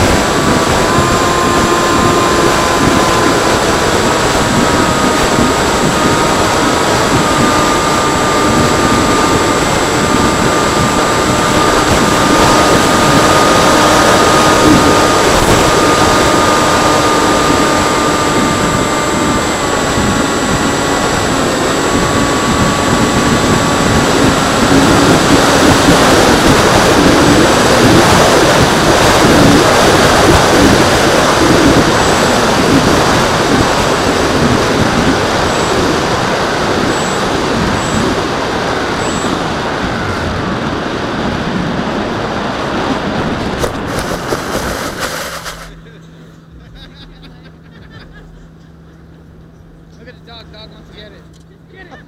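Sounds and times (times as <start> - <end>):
model plane motor whining: 0.0 - 40.8, 43.3 - 45.8
fluttering rush of wind: 0.0 - 46.5.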